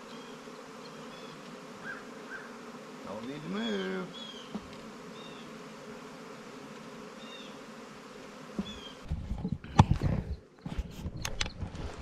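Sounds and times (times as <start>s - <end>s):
honeybee swarm humming: 0.0s - 12.0s.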